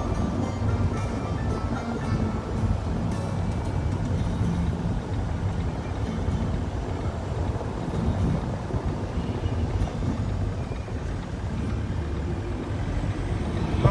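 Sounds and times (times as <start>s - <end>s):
car driving on road: 0.0s - 13.9s
wind noise on microphone: 0.0s - 13.9s.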